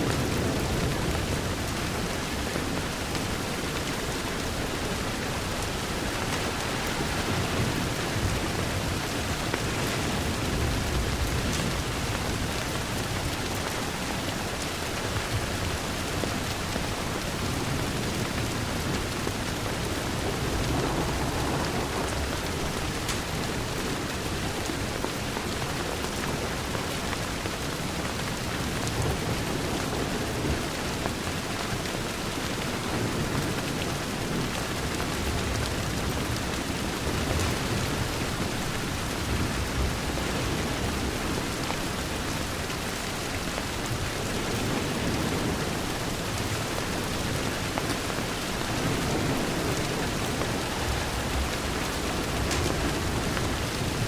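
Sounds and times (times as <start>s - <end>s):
rain falling on a window: 0.0s - 54.0s.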